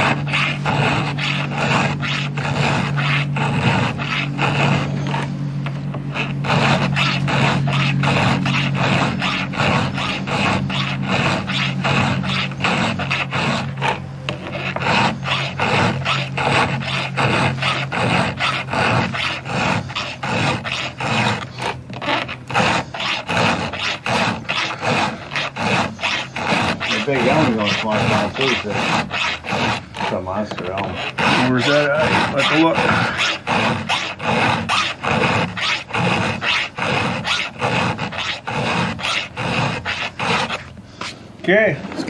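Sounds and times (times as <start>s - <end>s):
file rasping on chainsaw chain: 0.0s - 41.2s
steady low hum: 0.0s - 42.0s.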